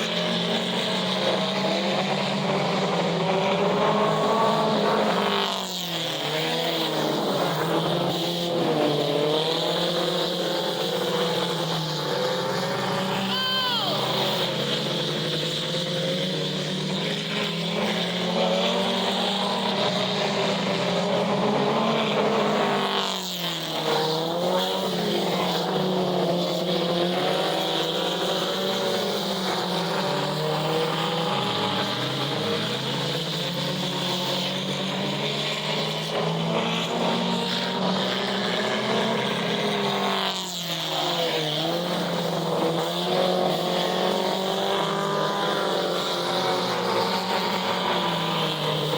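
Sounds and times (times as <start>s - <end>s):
racing engines at speed: 0.0s - 48.9s.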